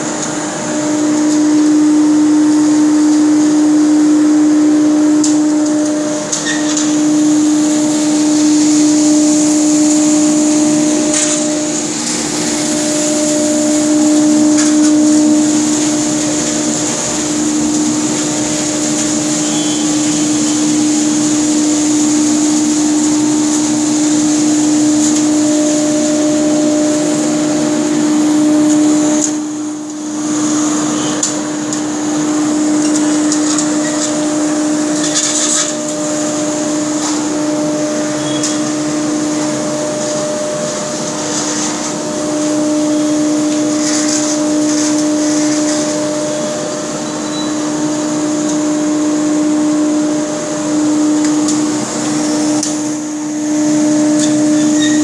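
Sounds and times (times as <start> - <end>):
dust collector humming: 0.0 - 55.0
rushing air hiss: 0.0 - 55.0.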